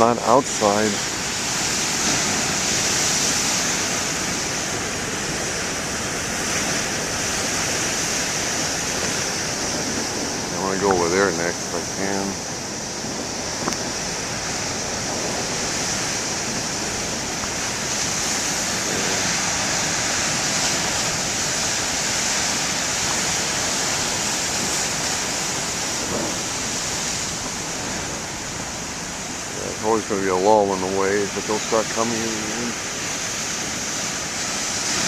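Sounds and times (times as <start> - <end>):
surf waves breaking: 0.0 - 35.0.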